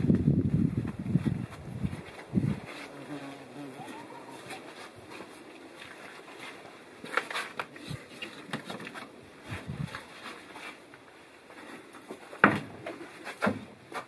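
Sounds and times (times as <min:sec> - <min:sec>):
footsteps on wooden boards: 0:00.0 - 0:14.0
rustling: 0:00.8 - 0:14.0.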